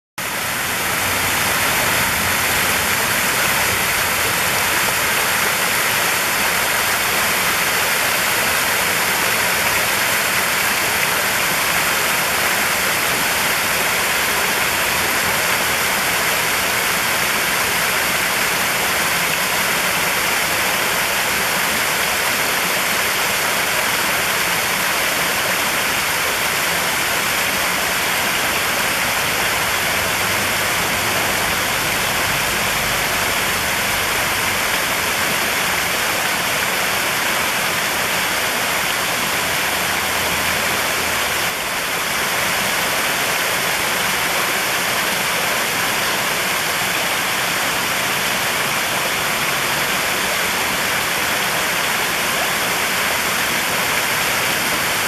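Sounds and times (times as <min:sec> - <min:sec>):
waterfall splashing into pool: 0:00.2 - 0:55.0.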